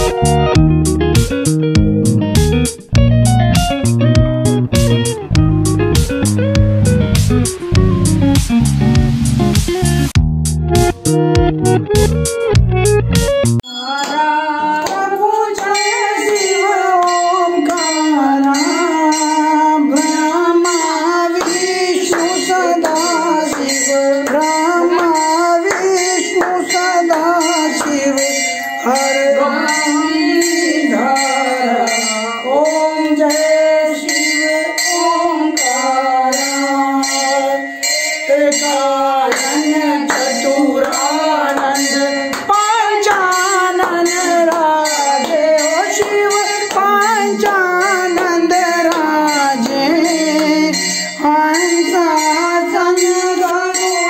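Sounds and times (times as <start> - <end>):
devotional song with instruments: 0.0 - 54.0.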